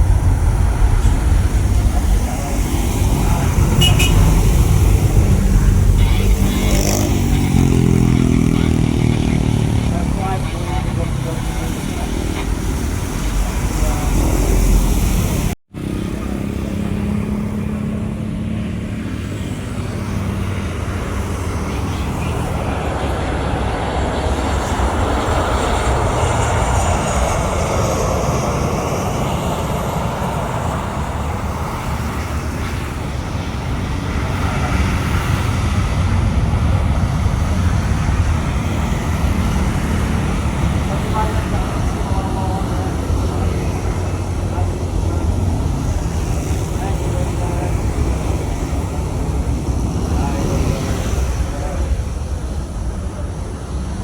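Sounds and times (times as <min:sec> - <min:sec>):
airliner engines rumbling: 0:00.0 - 0:54.0
jet engine whine: 0:00.0 - 0:54.0.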